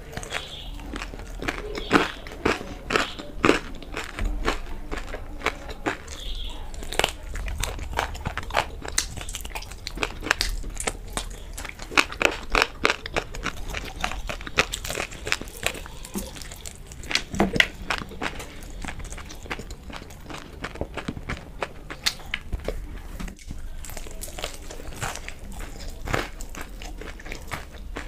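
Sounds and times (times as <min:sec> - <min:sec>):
biting and chewing: 0:00.0 - 0:28.0.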